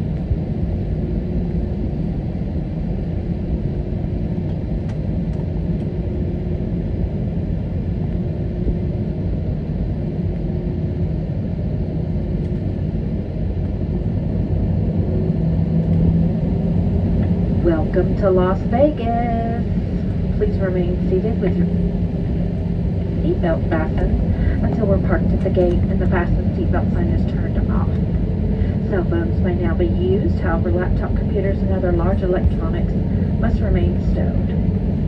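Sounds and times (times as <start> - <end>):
airliner cabin rumble: 0.0 - 35.0
faint steady hum: 0.0 - 35.0.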